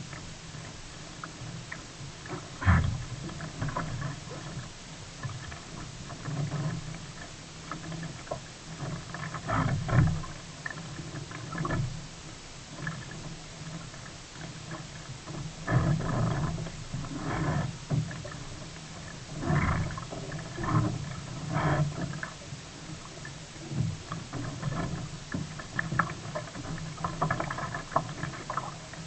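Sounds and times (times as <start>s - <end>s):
water splashing around kayak: 0.0s - 29.0s.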